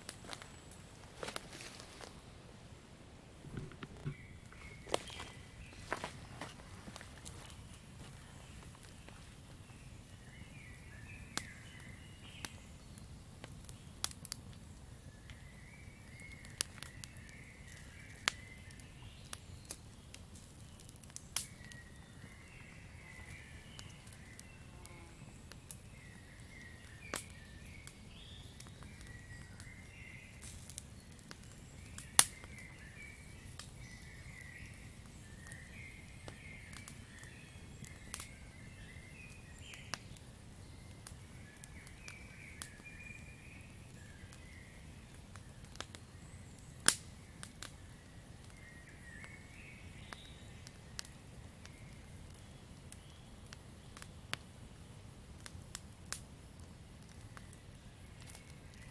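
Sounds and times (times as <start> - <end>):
campfire crackling: 0.0 - 58.9.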